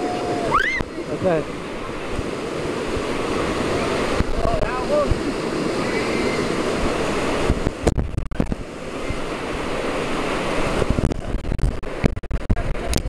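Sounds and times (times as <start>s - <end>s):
rapids rushing and splashing: 0.0s - 13.0s.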